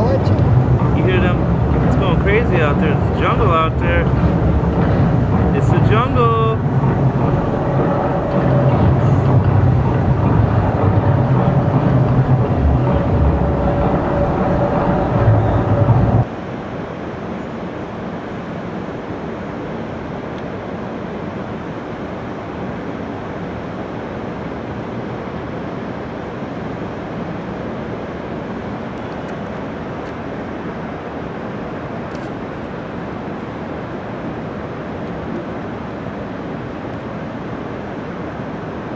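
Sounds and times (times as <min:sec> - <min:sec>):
distant city traffic: 0:00.0 - 0:38.9.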